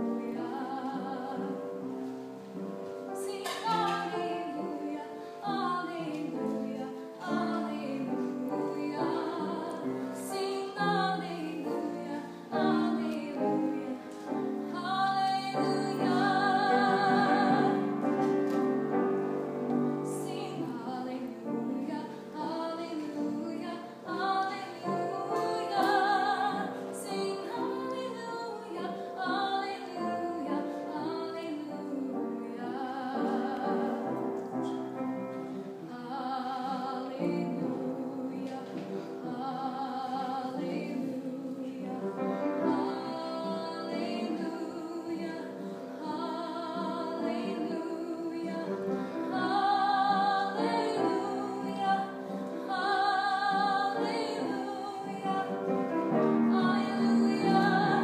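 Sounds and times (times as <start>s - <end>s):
woman singing with vibrato: 0.0s - 2.2s, 3.1s - 18.2s, 20.0s - 34.2s, 35.8s - 58.0s.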